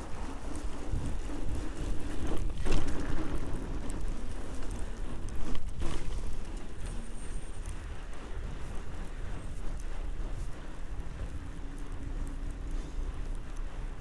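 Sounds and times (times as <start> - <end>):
fat tyres rolling over snow: 0.0 - 14.0
wind buffeting microphone: 0.0 - 14.0.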